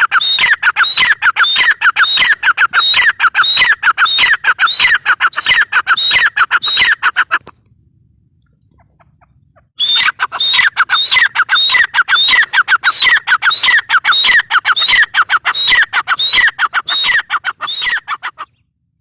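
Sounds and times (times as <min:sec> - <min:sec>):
francolin calling: 0:00.0 - 0:07.5, 0:08.4 - 0:18.7.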